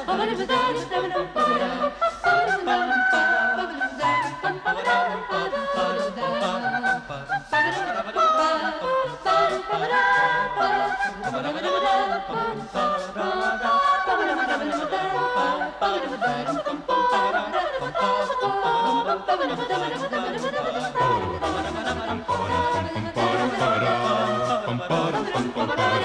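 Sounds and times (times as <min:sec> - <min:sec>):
vocal ensemble singing in harmony: 0:00.0 - 0:26.0.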